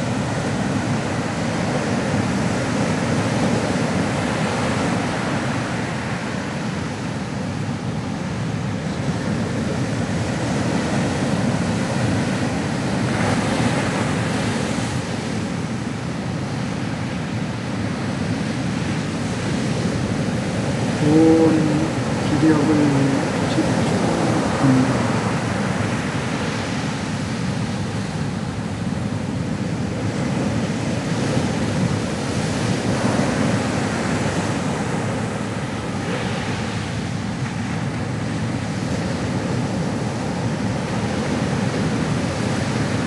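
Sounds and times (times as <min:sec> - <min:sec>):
ocean waves breaking on shore: 0:00.0 - 0:43.0.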